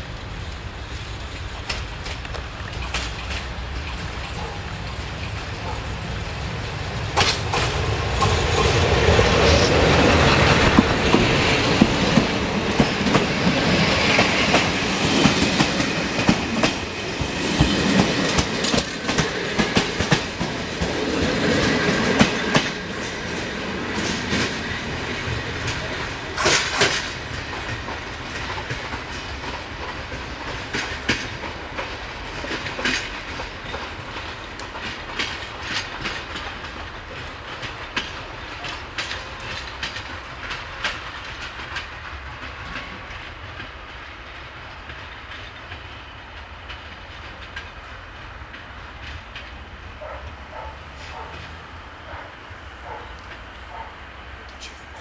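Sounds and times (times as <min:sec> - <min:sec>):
train wheels clattering over rail joints: 0:00.4 - 0:55.0.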